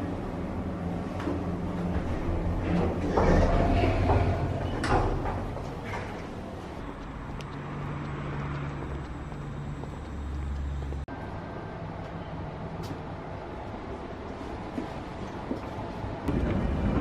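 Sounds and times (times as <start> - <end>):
train carriage rumble and hum: 0.0 - 17.0.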